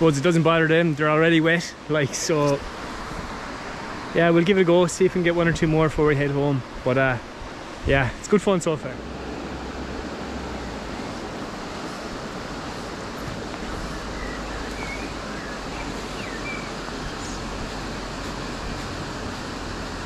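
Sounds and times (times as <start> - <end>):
river flowing over stones: 0.0 - 20.0.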